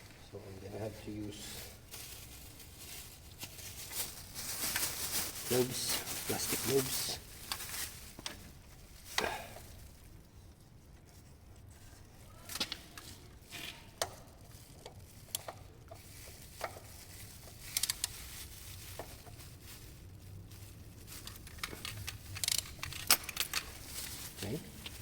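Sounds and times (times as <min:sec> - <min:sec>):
plastic gloves crinkling: 0:00.0 - 0:25.0.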